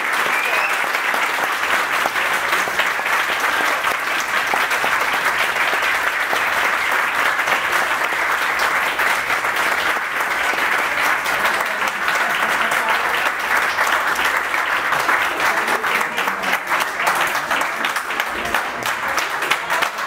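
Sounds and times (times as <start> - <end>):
people applauding: 0.0 - 20.0.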